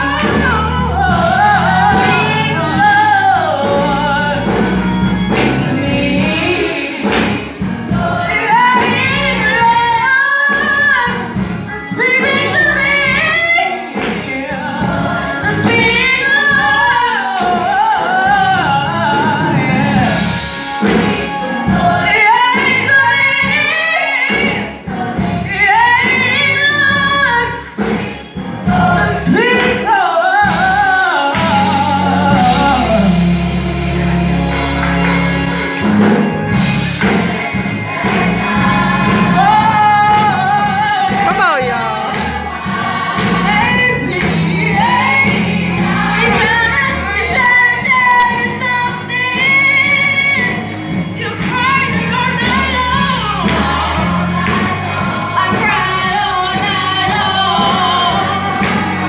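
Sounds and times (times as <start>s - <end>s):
gospel singing: 0.0s - 59.0s.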